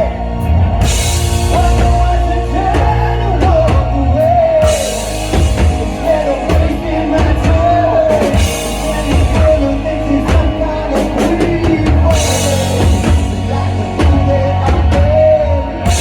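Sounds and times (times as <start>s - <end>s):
drum kit steady beat: 0.0s - 16.0s
heavy bass line: 0.0s - 16.0s
live rock band playing: 0.0s - 16.0s
wavering lead melody: 0.0s - 16.0s.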